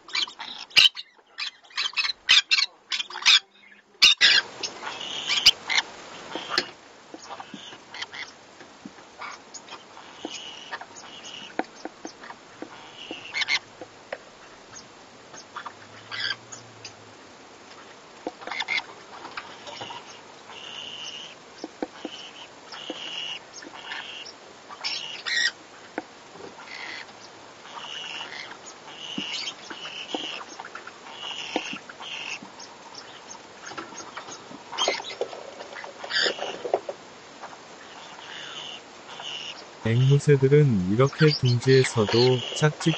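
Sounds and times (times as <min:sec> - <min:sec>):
parrots calling: 0:00.1 - 0:08.4, 0:09.2 - 0:13.7, 0:15.6 - 0:17.0, 0:19.4 - 0:25.6, 0:26.6 - 0:36.6, 0:37.9 - 0:42.9.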